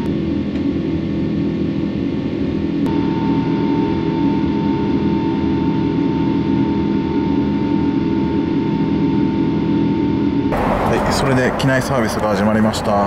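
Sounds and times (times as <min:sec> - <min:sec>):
aircraft cabin drone: 0:00.0 - 0:13.0.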